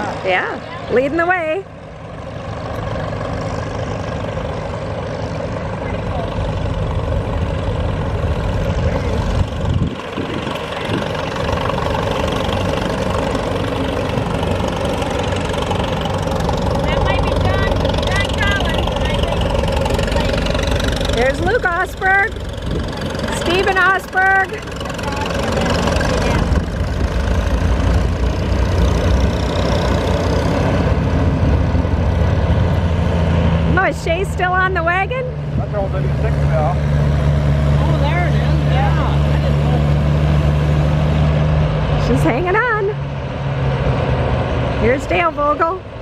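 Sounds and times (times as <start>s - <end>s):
tractor engines running: 0.0s - 46.0s.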